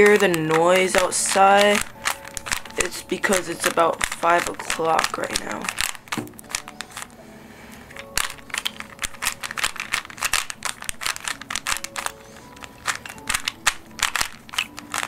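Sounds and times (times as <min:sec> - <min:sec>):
puzzle cube clicking and rattling: 0:00.0 - 0:07.2, 0:07.8 - 0:15.0.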